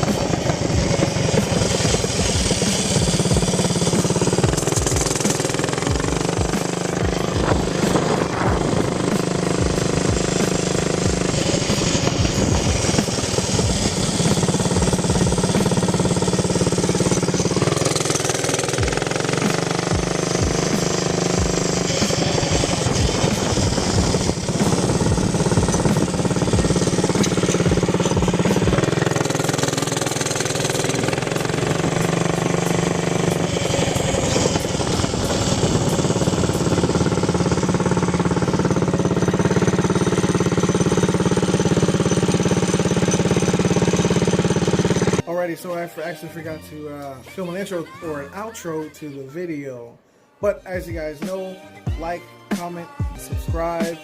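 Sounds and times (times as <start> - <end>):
small motorbike engine revving: 0.0 - 45.2.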